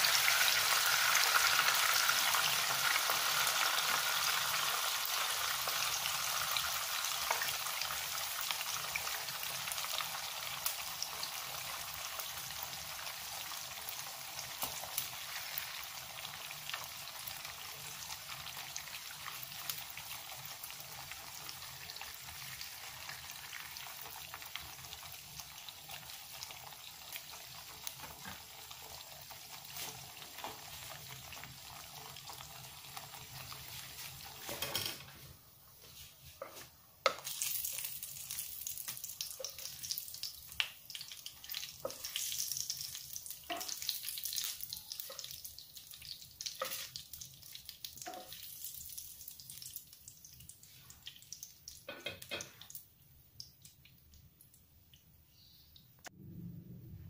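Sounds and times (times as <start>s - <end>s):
oil crackling and popping: 0.0s - 34.8s, 37.0s - 55.1s
food sizzling in hot oil: 0.0s - 53.7s.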